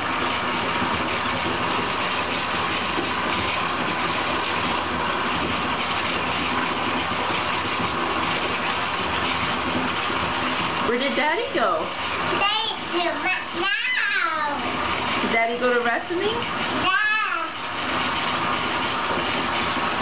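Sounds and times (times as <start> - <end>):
water rushing in a bathtub: 0.0 - 20.0.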